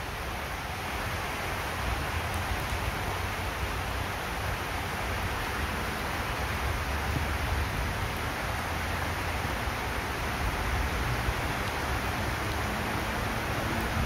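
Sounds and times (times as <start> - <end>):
rain falling on platform: 0.0 - 14.0.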